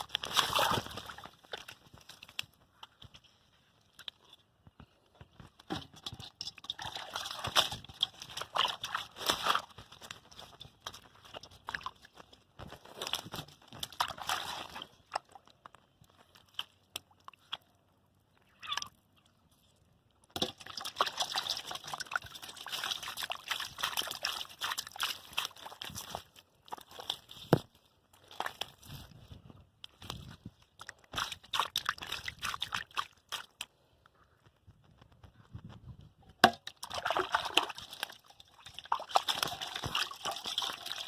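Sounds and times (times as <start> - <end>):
muddy water sloshing: 0.0 - 3.0, 3.8 - 17.8, 19.2 - 33.8, 36.4 - 41.0.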